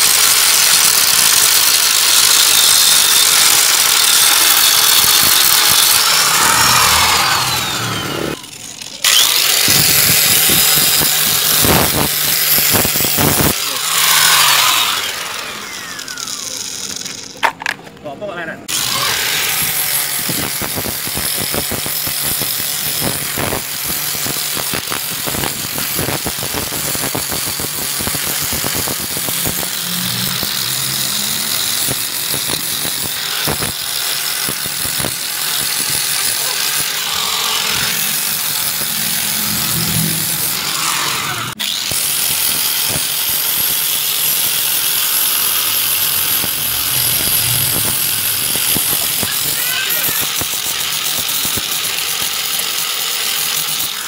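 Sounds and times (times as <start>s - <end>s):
angle grinder sanding metal: 0.0s - 17.3s, 18.7s - 54.0s.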